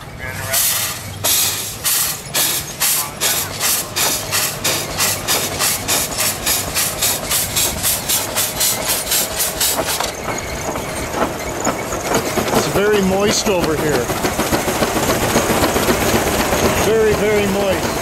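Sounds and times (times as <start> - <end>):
steam engine exhaust chuffing: 0.0 - 18.0.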